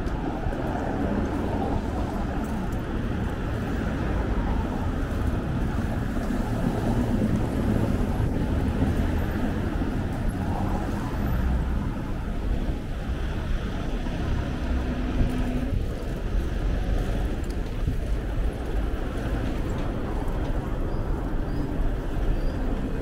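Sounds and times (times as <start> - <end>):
bicycle ride rumble: 0.0 - 23.0
car traffic: 0.0 - 23.0.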